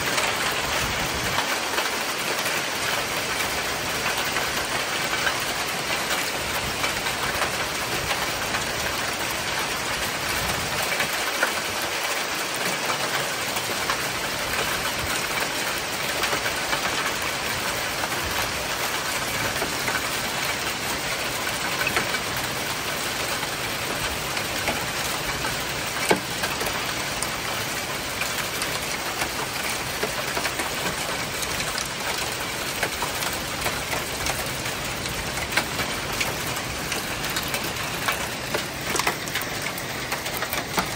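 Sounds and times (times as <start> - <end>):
hail ticking: 0.0 - 40.9
heavy rain on roofs: 0.0 - 40.9.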